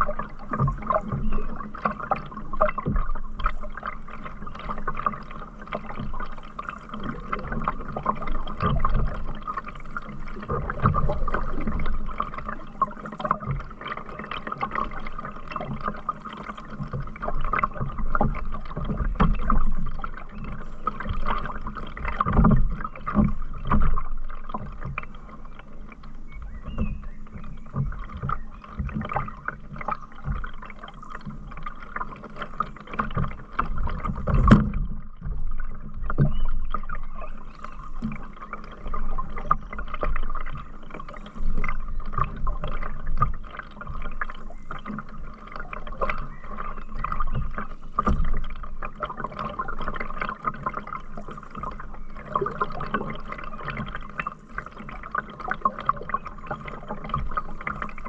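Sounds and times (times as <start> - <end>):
paddle strokes splashing water: 0.0 - 58.0.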